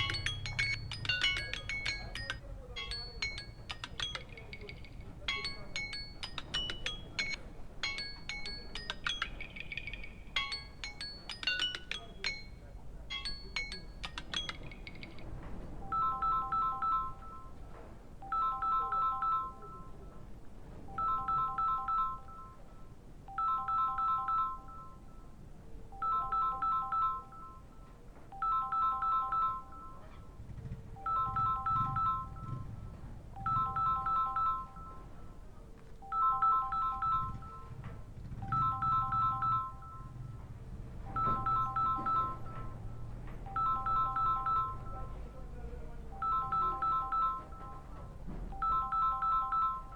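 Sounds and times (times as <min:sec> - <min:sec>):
smartphone ring tone beeps: 0:00.0 - 0:20.2, 0:20.9 - 0:45.5, 0:46.1 - 0:49.9.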